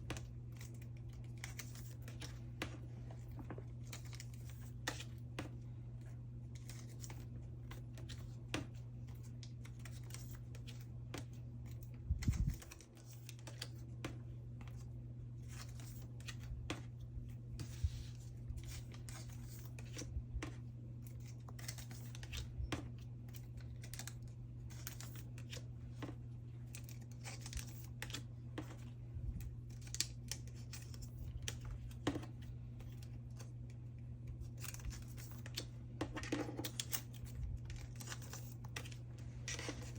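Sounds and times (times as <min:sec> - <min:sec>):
plastic sleeves clicking and rustling: 0:00.0 - 0:39.9
steady low hum: 0:00.0 - 0:39.9.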